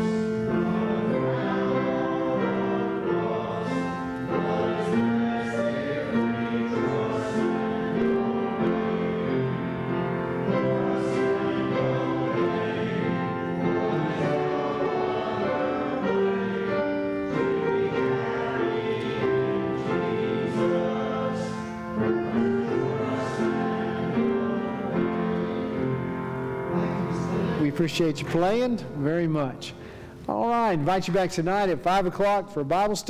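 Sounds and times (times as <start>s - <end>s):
congregation singing a hymn: 0.0s - 32.1s
piano accompaniment: 0.0s - 32.3s.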